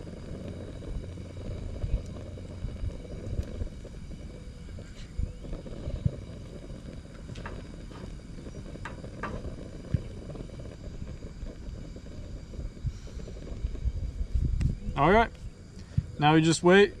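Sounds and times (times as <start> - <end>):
fish frying in oil: 0.0 - 14.3.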